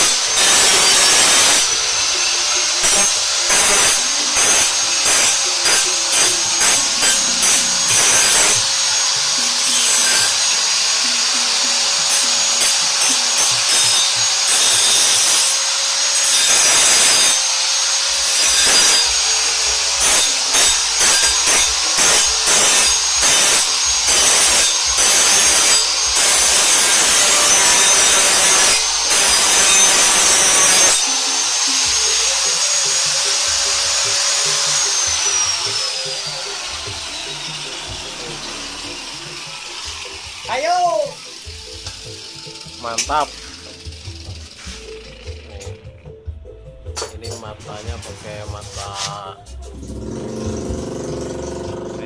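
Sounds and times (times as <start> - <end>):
power tool grinding steel blade: 0.0 - 46.0, 47.0 - 52.0.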